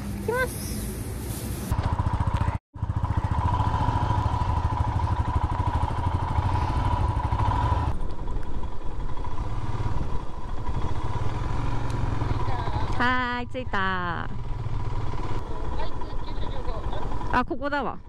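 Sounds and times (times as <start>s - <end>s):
motorcycle engine running: 1.7s - 18.0s.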